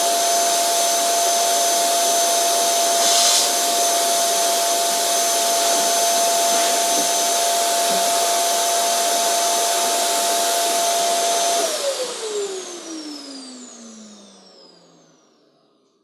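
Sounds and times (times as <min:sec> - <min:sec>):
vacuum motor spinning down: 0:00.0 - 0:15.8
vacuum cleaner running: 0:00.0 - 0:16.0.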